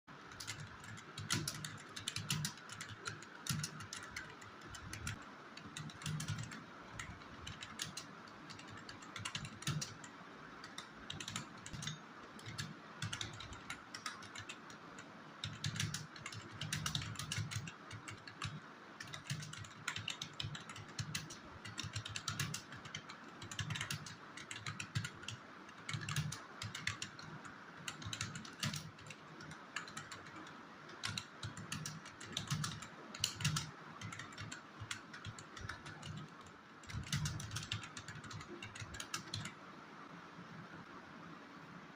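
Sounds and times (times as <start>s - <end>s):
typing on computer keyboard: 0.2s - 39.6s.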